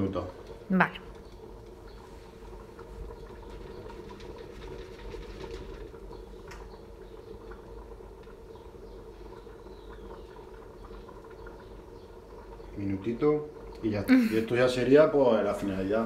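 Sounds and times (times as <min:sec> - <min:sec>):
pot bubbling with small pops: 0:00.0 - 0:16.0.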